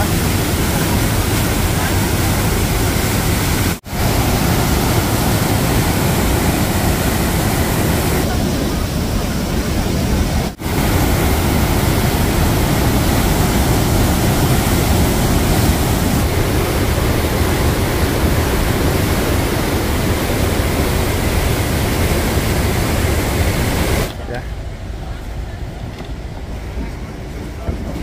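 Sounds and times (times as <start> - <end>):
waterfall rushing: 0.0 - 24.2.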